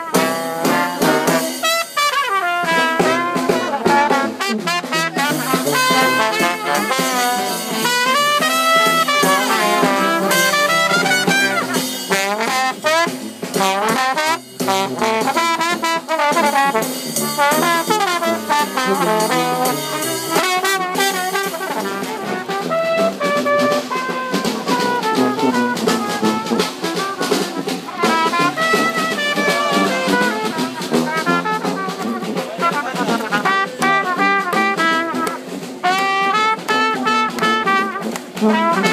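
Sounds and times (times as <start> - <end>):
brass band playing: 0.0 - 38.9
snare drum hits: 0.0 - 38.9.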